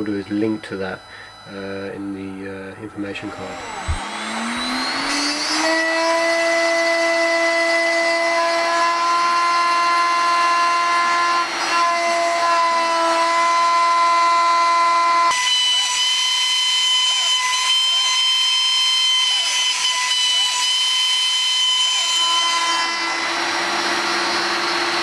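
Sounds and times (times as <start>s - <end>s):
router spindle motor whining: 0.0s - 25.0s.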